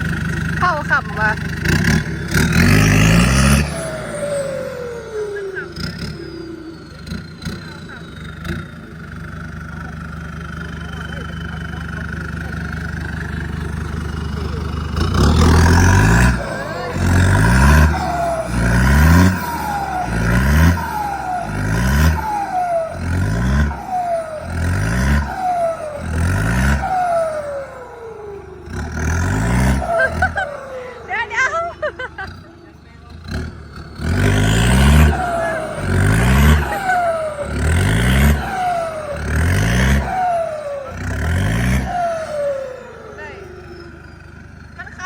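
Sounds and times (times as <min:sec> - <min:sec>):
diesel truck engine revving: 0:00.0 - 0:45.0.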